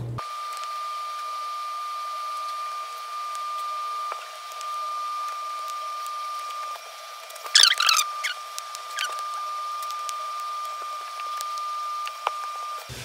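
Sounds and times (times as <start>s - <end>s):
thin high-pitched whine: 0.2s - 12.9s.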